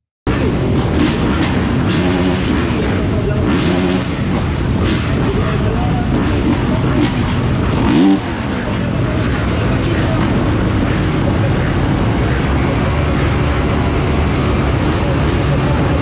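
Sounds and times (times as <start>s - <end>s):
engine revving sharply: 0.3s - 16.0s
motorcycle engines running: 0.3s - 16.0s.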